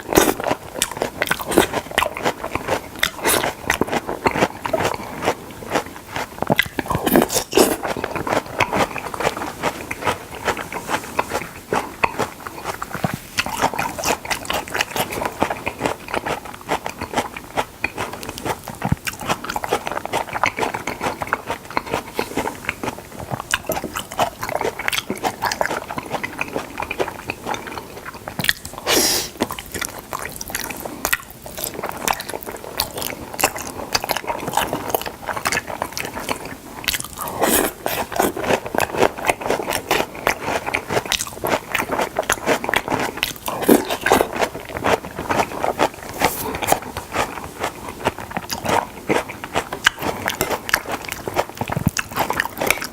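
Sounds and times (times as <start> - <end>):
wet chewing and biting: 0.0 - 52.9.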